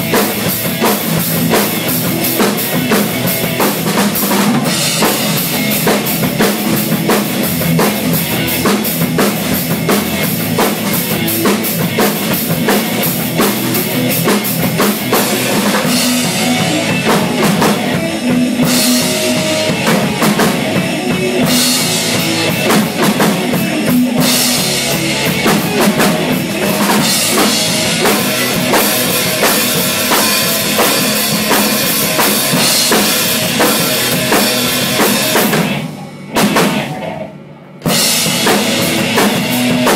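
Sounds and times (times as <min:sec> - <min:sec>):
rock drum beat: 0:00.0 - 0:37.2, 0:37.8 - 0:39.9
rock backing track: 0:00.0 - 0:39.9.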